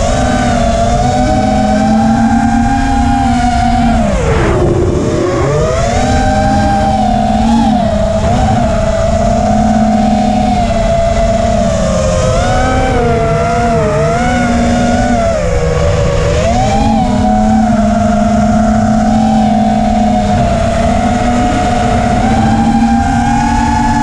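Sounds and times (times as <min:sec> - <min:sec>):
drone motors whining: 0:00.0 - 0:24.0
wind rushing: 0:01.1 - 0:24.0.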